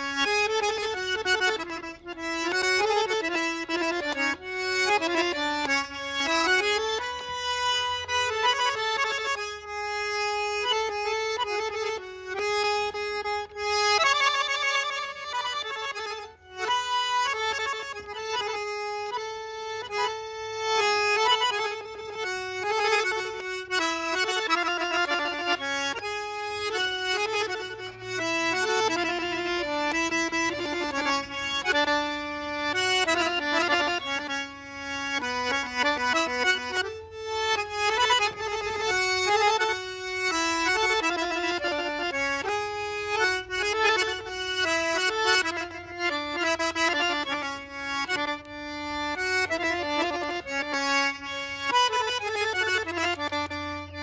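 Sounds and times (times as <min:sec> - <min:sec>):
accordion playing lively melody: 0:00.0 - 0:54.0.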